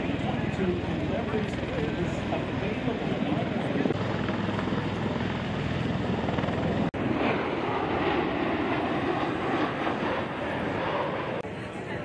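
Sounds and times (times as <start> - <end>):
aircraft loud drone: 0.0 - 12.0.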